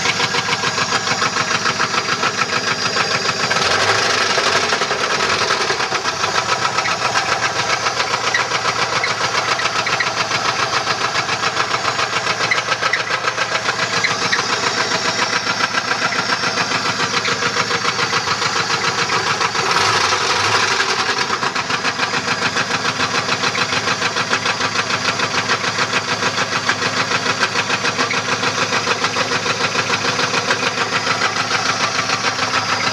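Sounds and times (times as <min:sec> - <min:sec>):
engine running with fast knock: 0:00.0 - 0:32.9.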